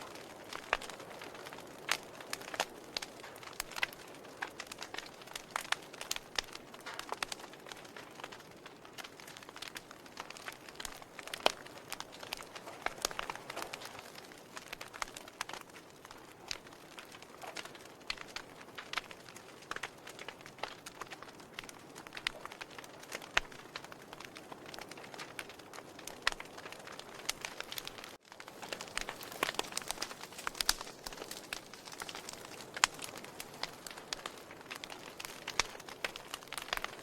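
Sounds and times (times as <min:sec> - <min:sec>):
log fire crackling: 0:00.0 - 0:37.0.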